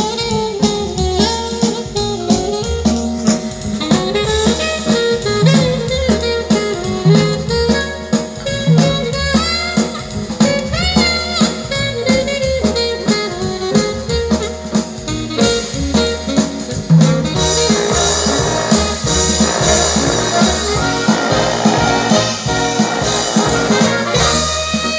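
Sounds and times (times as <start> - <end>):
jazz band playing: 0.0 - 24.9.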